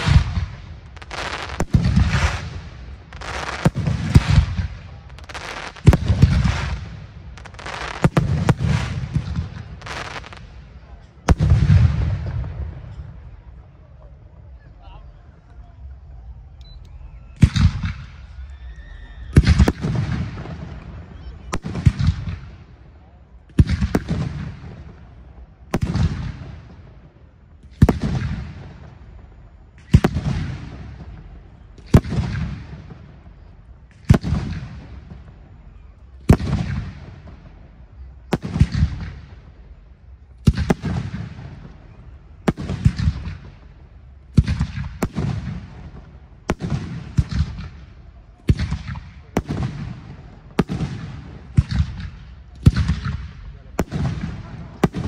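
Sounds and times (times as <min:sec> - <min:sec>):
rolling echo: 0:00.0 - 0:55.0.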